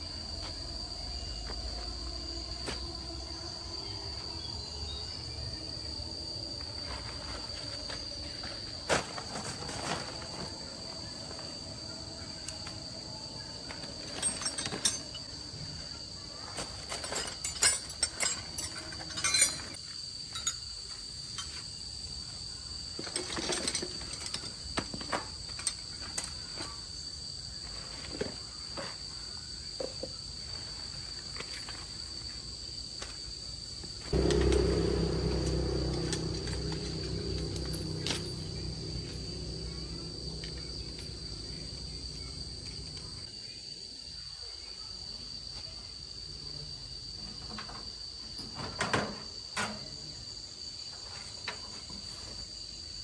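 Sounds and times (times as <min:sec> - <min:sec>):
crickets chirring: 0:00.0 - 0:53.0.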